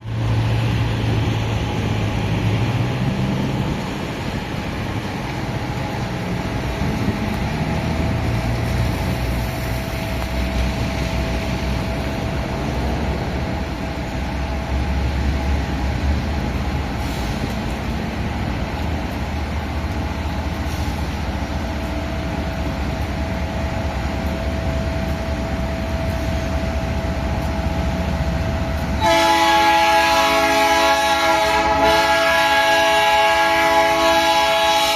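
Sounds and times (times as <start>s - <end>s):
locomotive engine drone: 0.0s - 34.9s.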